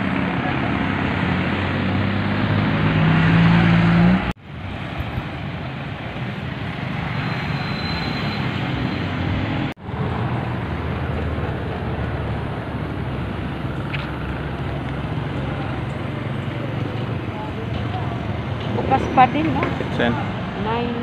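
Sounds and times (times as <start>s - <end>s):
passing vehicles: 0.0s - 21.0s
vehicle engine humming: 0.0s - 21.0s.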